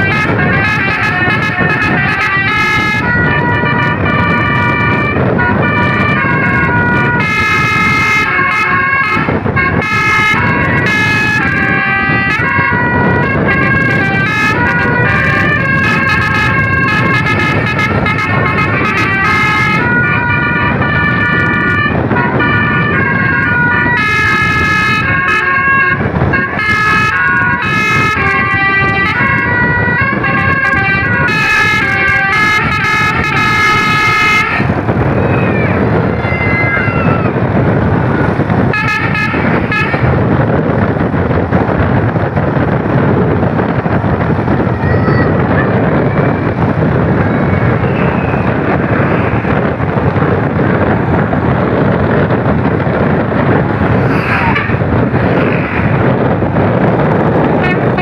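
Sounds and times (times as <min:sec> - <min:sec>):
bus horn playing a melody: 0:00.0 - 0:36.2, 0:37.2 - 0:41.2, 0:45.4 - 0:58.0
road and wind noise: 0:00.0 - 0:58.0.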